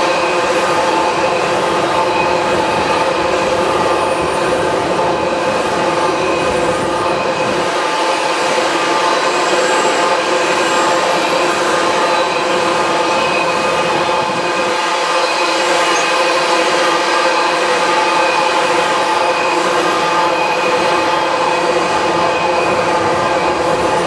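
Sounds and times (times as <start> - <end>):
train rolling rumble: 0.0 - 24.0
train wheels squealing: 0.0 - 24.0.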